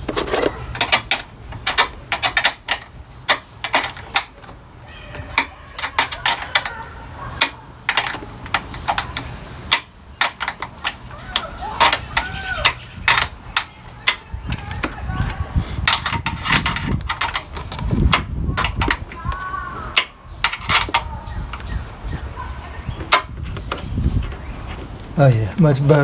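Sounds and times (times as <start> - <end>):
tool clicks and knocks: 0.1 - 6.8, 7.4 - 21.7.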